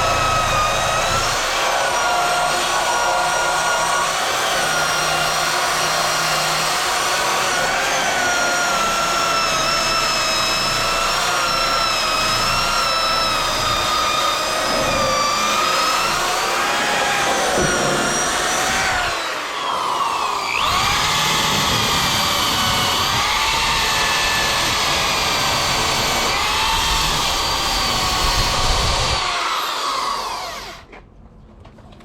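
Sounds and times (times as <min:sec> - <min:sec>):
power tool motor whine: 0:00.0 - 0:30.9.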